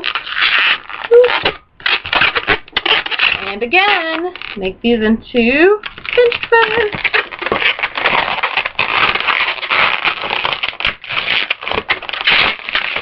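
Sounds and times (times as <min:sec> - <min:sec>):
balloons rubbing and crackling: 0:00.0 - 0:04.8, 0:05.4 - 0:13.0.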